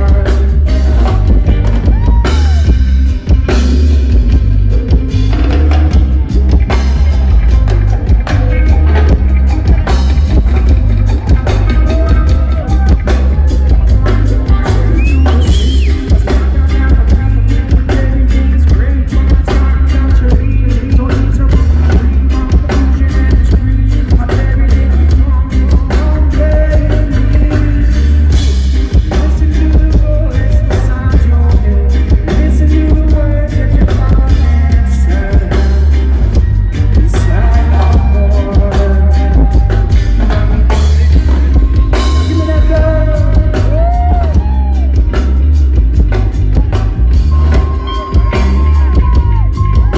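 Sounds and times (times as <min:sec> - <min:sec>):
person singing: 0:00.0 - 0:02.9, 0:04.7 - 0:49.9
deep bass line: 0:00.0 - 0:49.9
live reggae band: 0:00.0 - 0:49.9.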